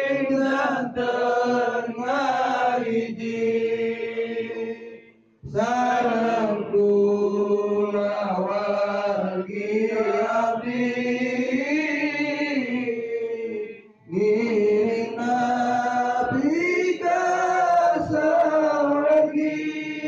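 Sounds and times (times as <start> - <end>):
men chanting: 0.0 - 20.0.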